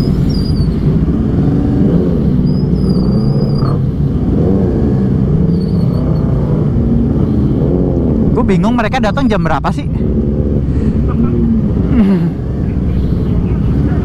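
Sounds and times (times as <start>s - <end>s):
motorcycle engine at low revs: 0.0s - 8.6s, 9.3s - 14.0s.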